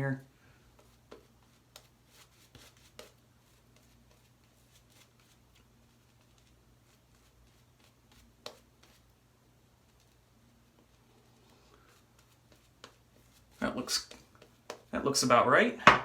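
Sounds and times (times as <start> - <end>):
shaving brush swishing lather: 0.7 - 9.2, 9.8 - 15.3.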